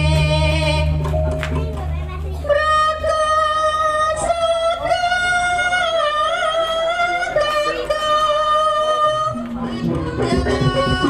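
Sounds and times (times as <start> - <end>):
woman singing through loudspeakers: 0.0 - 1.3, 2.4 - 11.0.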